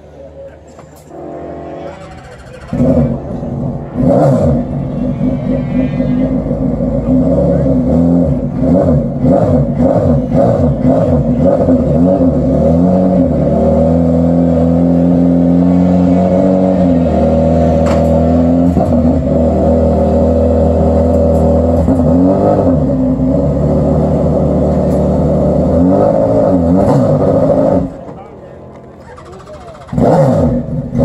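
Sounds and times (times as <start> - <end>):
sports car engine revving: 1.1 - 28.1, 28.8 - 31.0.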